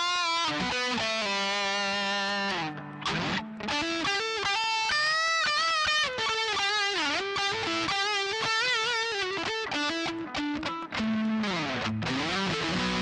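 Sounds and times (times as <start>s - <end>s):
electric guitar lead line: 0.0s - 13.0s.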